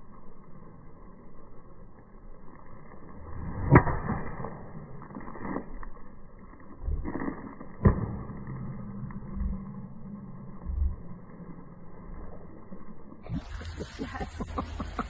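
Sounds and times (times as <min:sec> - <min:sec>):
faint low rumbling: 0:00.0 - 0:15.0.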